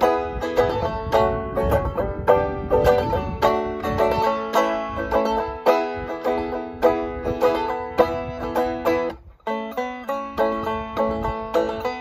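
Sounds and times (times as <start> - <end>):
banjo playing: 0.0 - 12.0.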